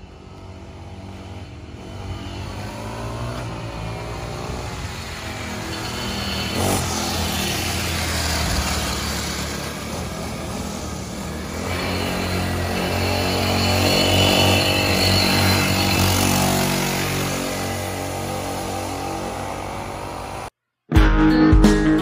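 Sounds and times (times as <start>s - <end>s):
pocket bike motors revving: 0.0s - 20.5s.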